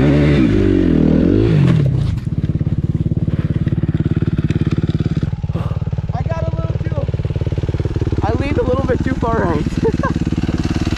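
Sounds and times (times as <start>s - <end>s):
vehicle engine revving and idling: 0.0s - 10.9s.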